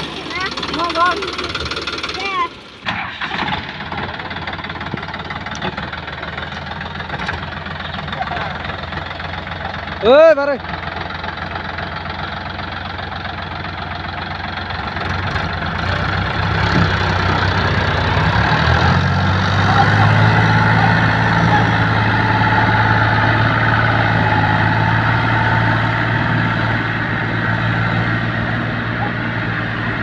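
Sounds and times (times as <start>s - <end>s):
diesel tractor engines under load: 0.0s - 30.0s.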